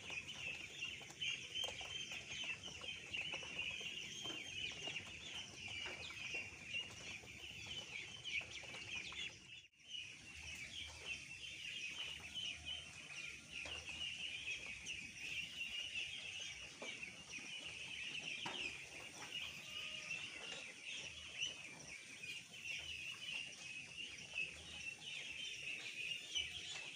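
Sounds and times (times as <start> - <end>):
ducklings peeping: 0.0 - 26.9.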